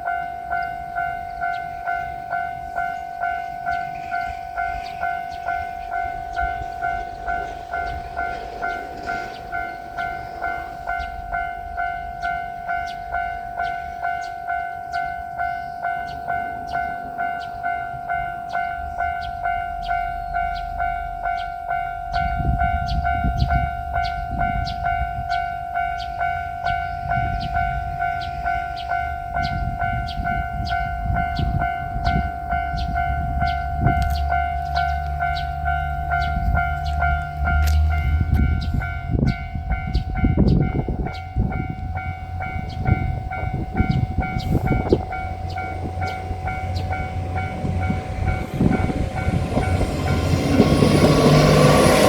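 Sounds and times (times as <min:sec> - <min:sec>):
diesel railcar rumble: 0:00.0 - 0:52.0
level-crossing alarm ringing: 0:00.0 - 0:52.0.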